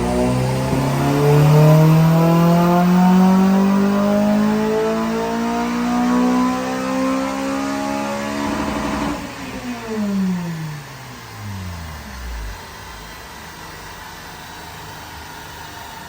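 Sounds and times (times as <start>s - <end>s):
car engine revving under load: 0.0s - 14.3s.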